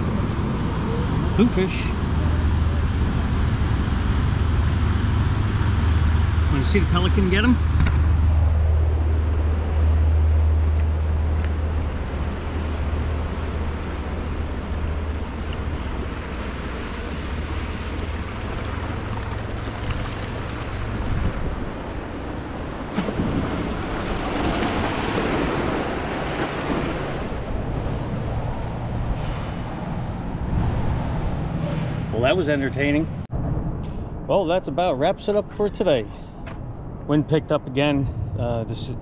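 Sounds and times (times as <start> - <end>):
river water washing against bank: 0.0 - 33.2
wind rumbling over microphone: 0.0 - 39.0.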